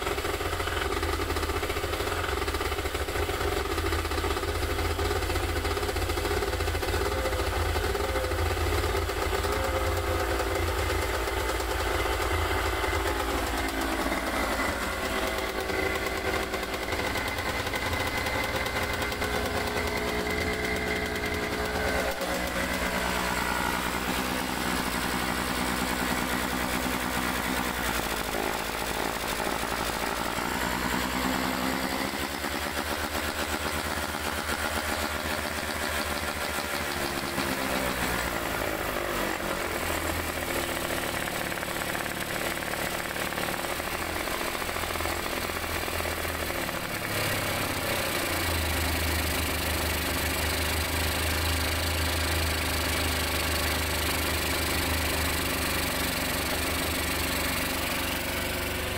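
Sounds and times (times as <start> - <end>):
two-stroke engine revving and idling: 0.0 - 58.9.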